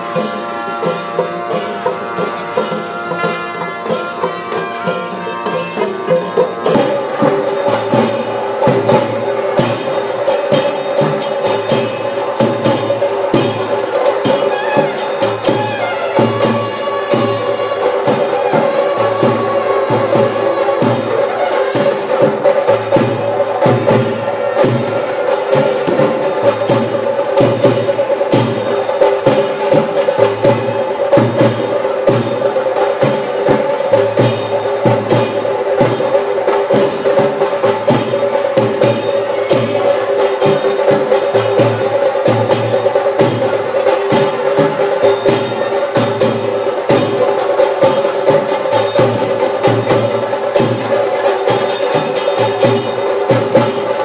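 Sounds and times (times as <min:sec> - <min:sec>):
drums beating steadily: 0:00.0 - 0:54.0.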